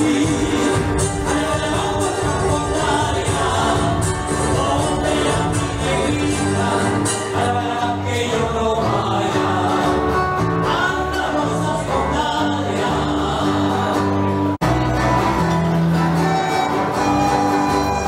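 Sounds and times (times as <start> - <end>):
folk music with singing: 0.0 - 18.0.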